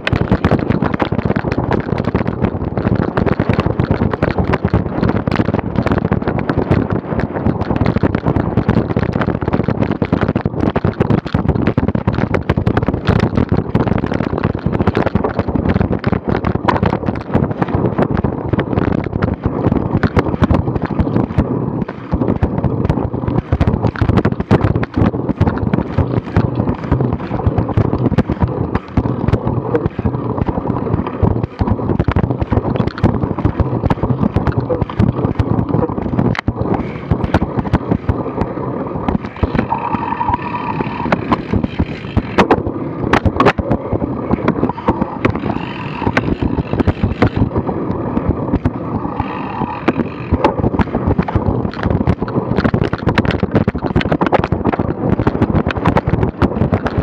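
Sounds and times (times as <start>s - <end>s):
bike clattering and rattling: 0.0s - 57.0s
wind buffeting microphone: 0.0s - 57.0s.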